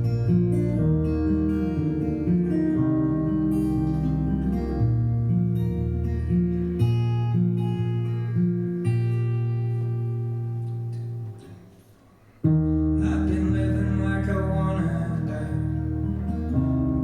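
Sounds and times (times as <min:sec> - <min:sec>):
guitar-led live band music: 0:00.0 - 0:11.7, 0:12.5 - 0:17.0.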